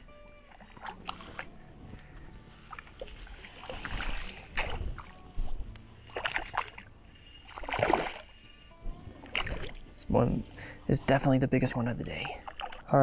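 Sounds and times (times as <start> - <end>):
water splashing by thrashing fish: 0.0 - 10.0, 12.1 - 13.0.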